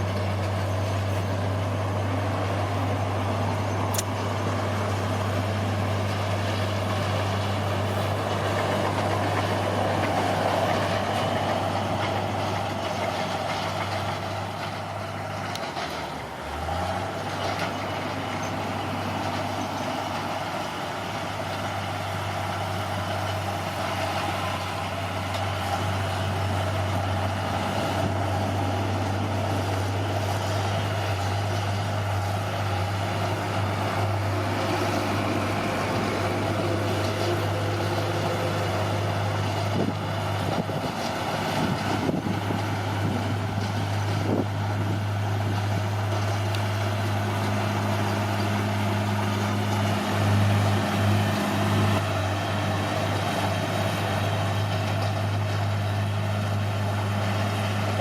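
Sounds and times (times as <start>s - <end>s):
bulldozer diesel engine droning: 0.0s - 58.0s.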